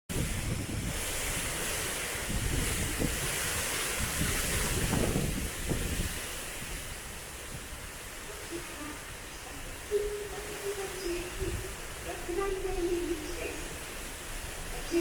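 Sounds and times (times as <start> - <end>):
strong wind buffeting microphone: 0.1 - 15.0.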